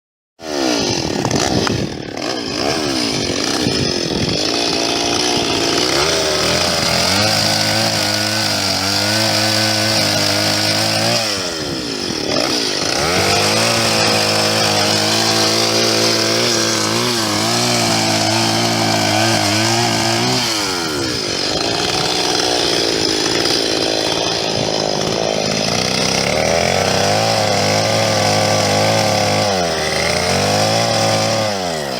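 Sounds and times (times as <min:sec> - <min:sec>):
chainsaw revving: 0:00.4 - 0:31.9.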